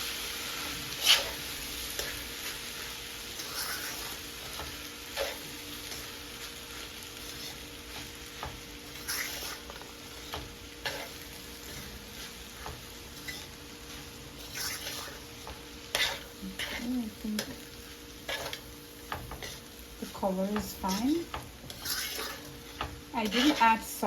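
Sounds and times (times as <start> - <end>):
rice sizzling in a pan: 0.0 - 24.0
spatula scraping a pan: 0.2 - 24.0.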